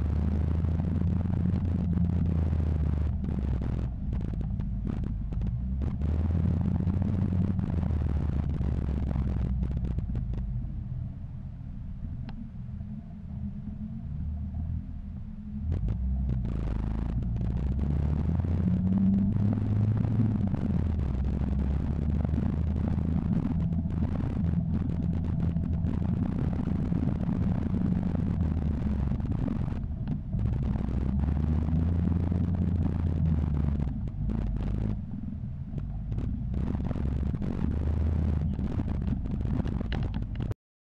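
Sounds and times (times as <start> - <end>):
wind and road noise: 0.0 - 12.8, 13.5 - 40.6
off-road vehicle engine: 0.0 - 40.6.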